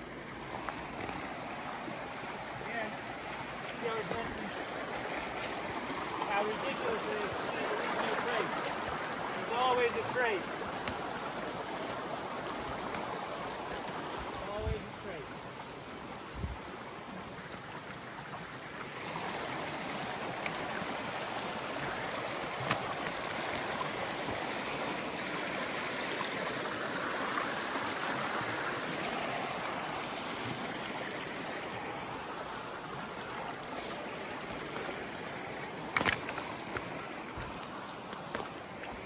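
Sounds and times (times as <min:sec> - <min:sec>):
creek babbling over rocks: 0:00.0 - 0:39.0.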